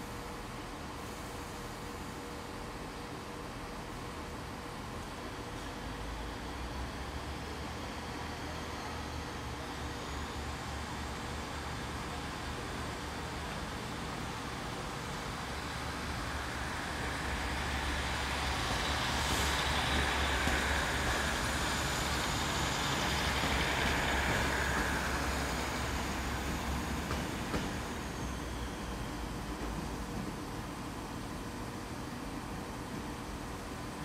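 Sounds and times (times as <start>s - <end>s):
diesel train engine hum: 0.0s - 34.0s.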